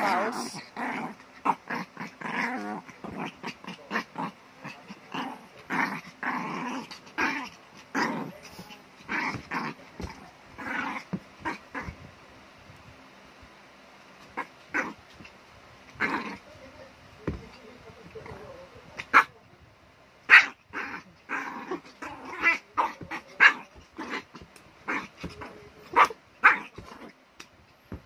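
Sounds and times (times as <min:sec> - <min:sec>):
small dog play-growling: 0:00.0 - 0:19.5, 0:20.2 - 0:28.0.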